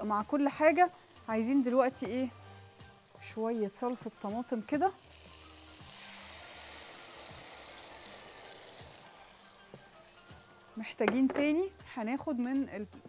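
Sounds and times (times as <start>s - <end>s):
sauce sizzling in a hot pan: 0.0s - 11.0s.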